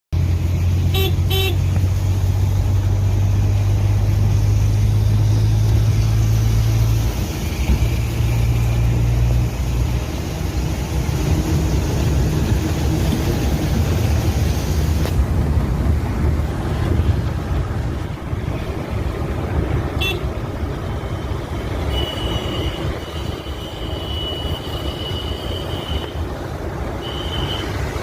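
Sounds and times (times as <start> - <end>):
vehicle engine droning: 0.2 - 28.0.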